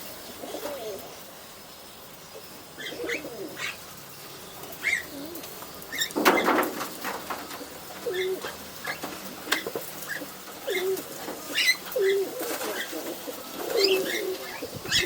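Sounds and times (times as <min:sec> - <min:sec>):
pigeons cooing: 0:00.0 - 0:01.3, 0:02.3 - 0:04.0, 0:04.6 - 0:15.0.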